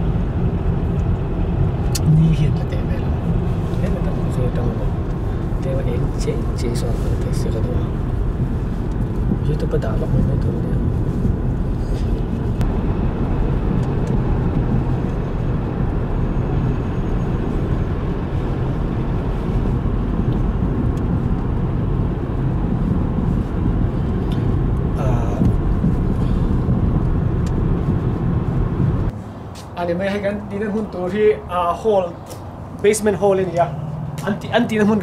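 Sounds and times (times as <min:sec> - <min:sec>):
low rumbling noise: 0:00.0 - 0:35.0.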